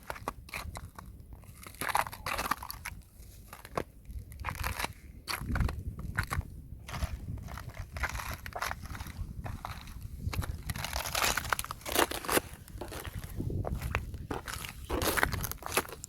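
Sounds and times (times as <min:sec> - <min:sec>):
heavy low ice crunch: 0:00.0 - 0:16.0
ice crunching and crackling: 0:00.0 - 0:16.0.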